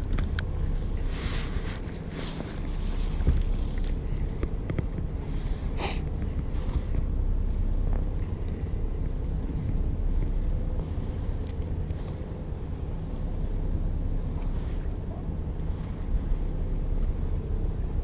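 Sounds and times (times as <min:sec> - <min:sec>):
boat engine rumbling: 0:00.0 - 0:18.0
wind on microphone: 0:00.0 - 0:18.0.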